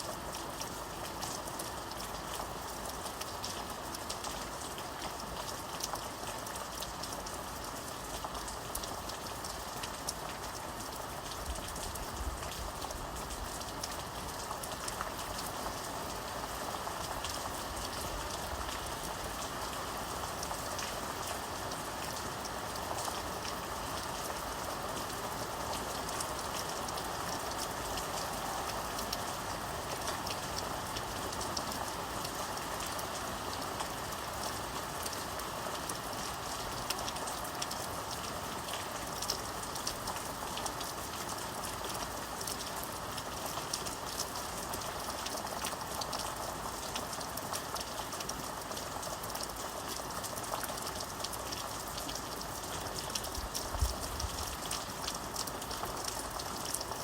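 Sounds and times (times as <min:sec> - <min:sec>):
raindrops ticking on a surface: 0:00.0 - 0:57.0
steady rain falling: 0:00.0 - 0:57.0.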